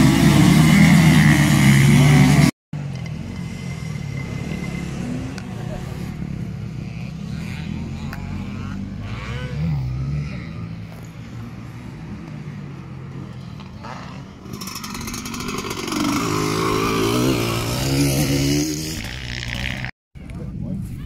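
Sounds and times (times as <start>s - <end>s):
dirt bike engine revving: 0.0s - 12.0s, 13.8s - 19.9s.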